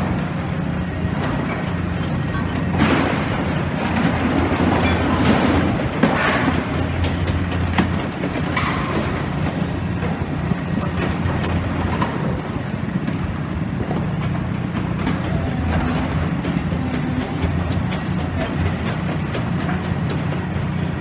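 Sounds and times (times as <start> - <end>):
excavator diesel engine running: 0.0 - 21.0
knocks and clanks of rubble: 0.1 - 21.0.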